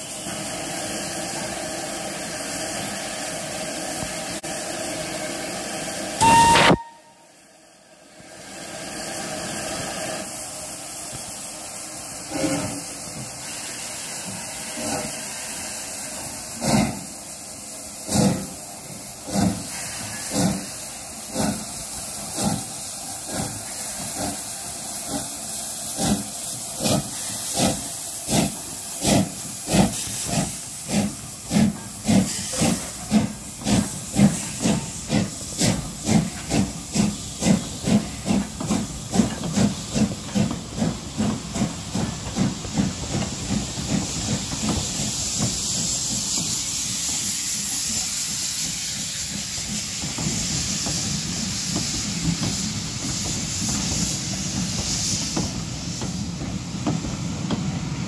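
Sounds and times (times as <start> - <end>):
steady hiss of steam: 0.0 - 58.0
steam locomotive exhaust beats: 0.0 - 58.0.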